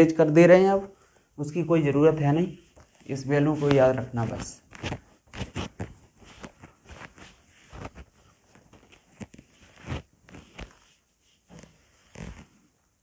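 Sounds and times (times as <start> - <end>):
cloth wiping whiteboard: 1.6 - 13.0.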